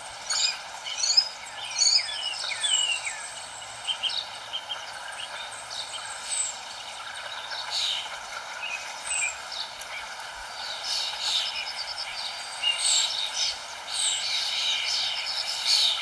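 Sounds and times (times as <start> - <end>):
songbirds chirping and trilling: 0.0 - 16.0
steady background hiss: 0.0 - 16.0.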